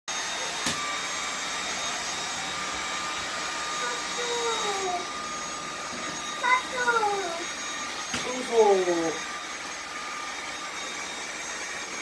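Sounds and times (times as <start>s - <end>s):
vacuum cleaner running: 0.1s - 12.0s.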